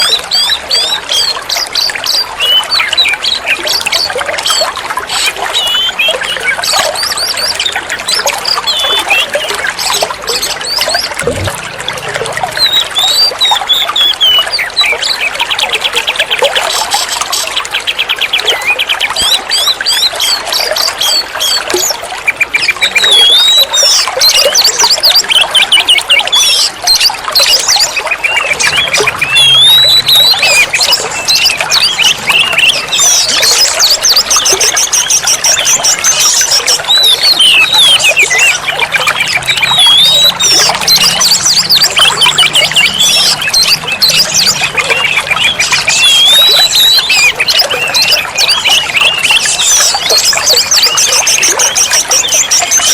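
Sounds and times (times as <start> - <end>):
bird singing whistles and trills: 0.0 - 52.9.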